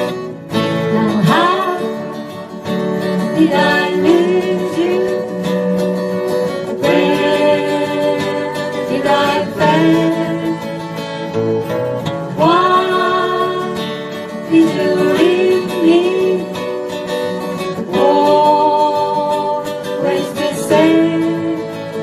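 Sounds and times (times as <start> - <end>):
acoustic guitars strumming chords: 0.0 - 22.0
plucked guitar lead with bends: 0.0 - 22.0.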